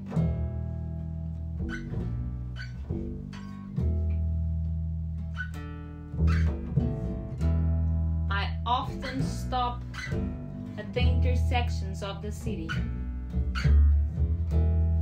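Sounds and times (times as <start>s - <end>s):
guitar plucking notes: 0.0s - 15.0s
long held bass notes: 0.0s - 15.0s.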